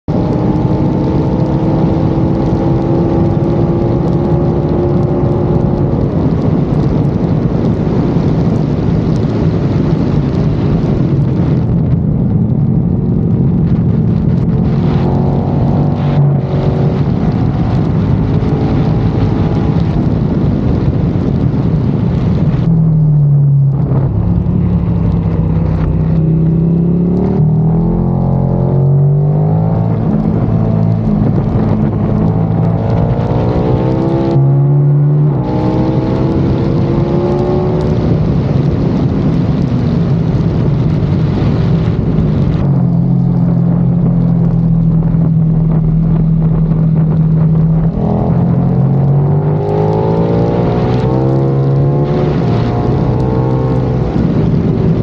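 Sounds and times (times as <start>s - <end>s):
motorcycle engine accelerating: 0.0s - 55.0s
wind rush: 0.0s - 55.0s.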